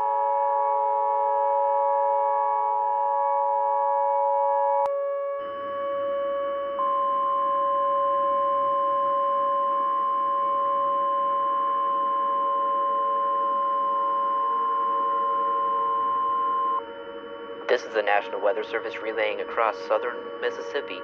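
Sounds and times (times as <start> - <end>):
emergency alert tone: 0.0 - 21.0.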